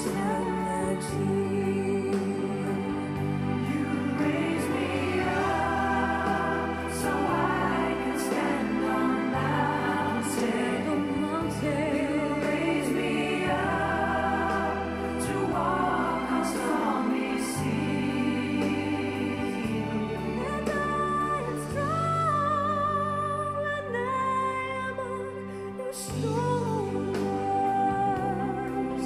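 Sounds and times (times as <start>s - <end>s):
choral music over bass line: 0.0s - 29.0s.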